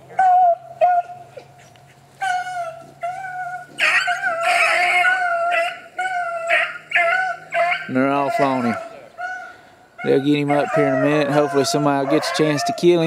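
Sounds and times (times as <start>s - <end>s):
hounds baying and yipping: 0.0s - 13.0s.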